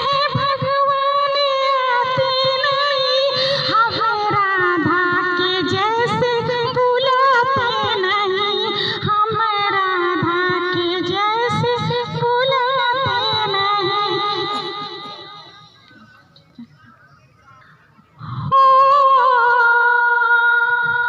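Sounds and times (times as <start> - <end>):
woman singing unaccompanied: 0.0 - 15.8, 18.2 - 21.0.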